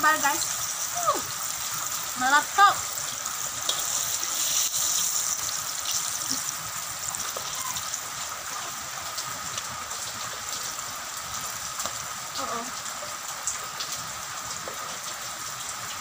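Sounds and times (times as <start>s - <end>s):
squid deep-frying in hot oil: 0.0s - 16.0s.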